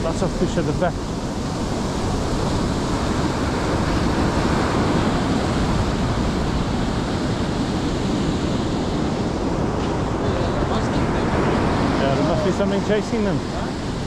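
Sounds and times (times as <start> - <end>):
surf waves breaking: 0.0 - 14.0
wind on microphone: 0.0 - 14.0.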